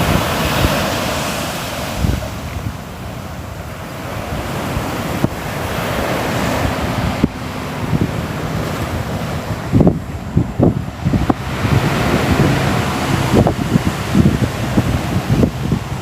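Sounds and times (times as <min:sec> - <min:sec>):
ocean surf washing ashore: 0:00.0 - 0:16.0
wind on microphone: 0:00.0 - 0:16.0.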